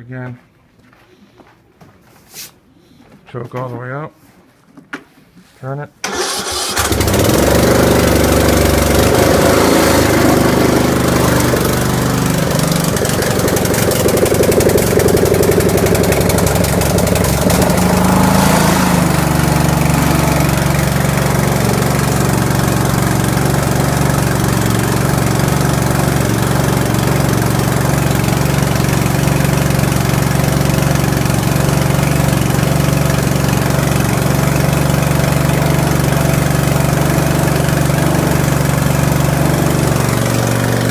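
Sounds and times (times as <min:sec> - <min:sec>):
engine running unevenly then idling: 0:06.5 - 0:40.9.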